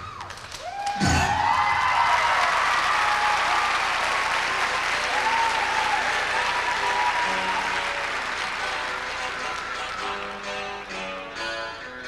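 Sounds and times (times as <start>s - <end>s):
audience applauding and cheering: 0.0s - 11.3s.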